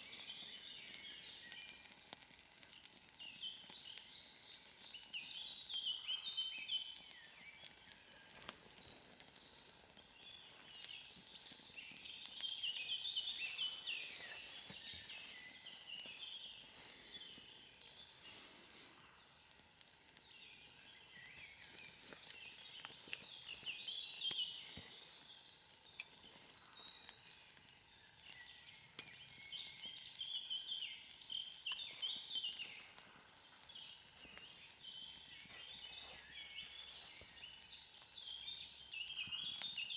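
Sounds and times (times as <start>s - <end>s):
birds chirping and whistling: 0.0s - 19.5s, 20.1s - 39.9s
rainwater dripping: 0.0s - 39.9s.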